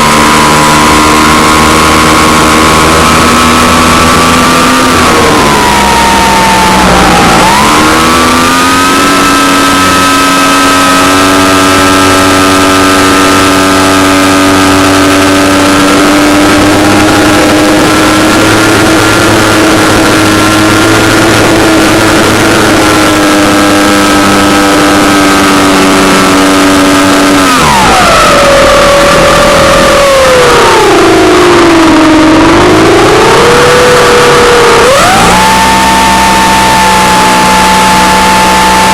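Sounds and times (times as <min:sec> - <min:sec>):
model airplane engine running: 0:00.0 - 0:38.9.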